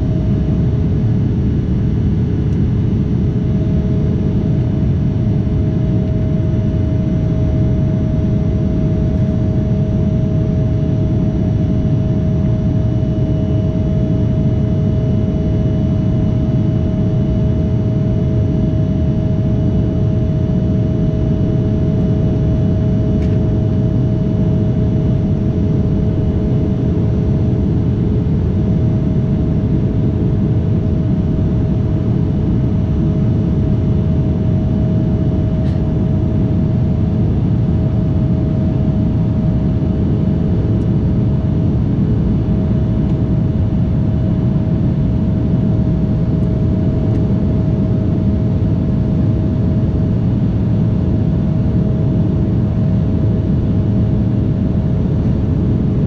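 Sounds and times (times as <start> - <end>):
steady droning tone: 0.0 - 56.0.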